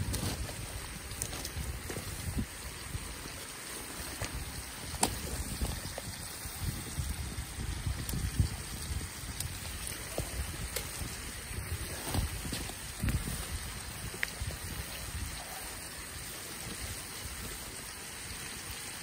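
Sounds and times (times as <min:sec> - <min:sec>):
river water flowing: 0:00.0 - 0:19.0
wood fire crackling: 0:00.0 - 0:19.0.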